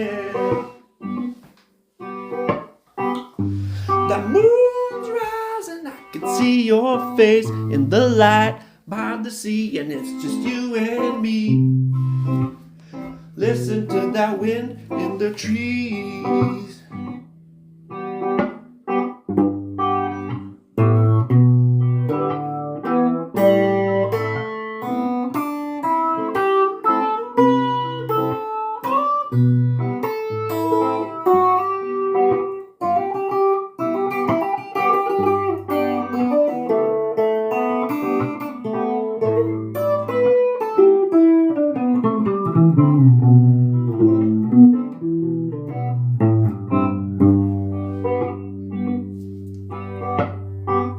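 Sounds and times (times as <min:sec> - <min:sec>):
picked guitar notes and runs: 0:00.0 - 0:08.8, 0:09.9 - 0:50.9.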